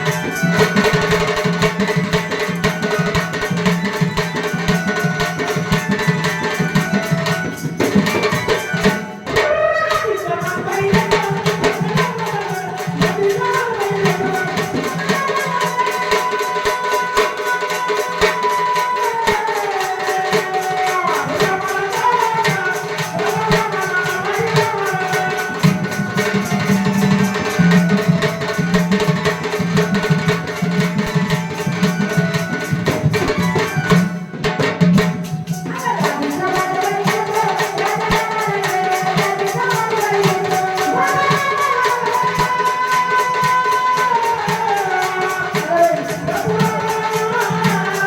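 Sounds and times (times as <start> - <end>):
tabla rhythm: 0.0 - 48.0.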